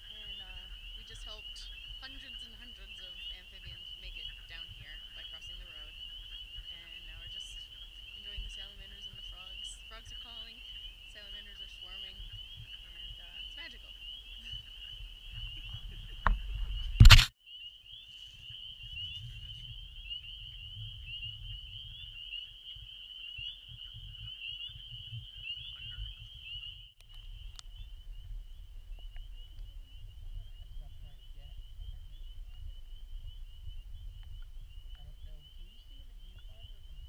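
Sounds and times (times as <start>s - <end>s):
frogs peeping in chorus: 0.0s - 37.0s.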